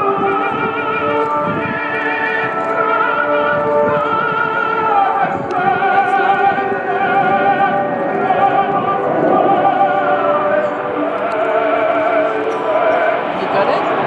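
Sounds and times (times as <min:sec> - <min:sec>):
operatic voice singing: 0:00.0 - 0:14.0.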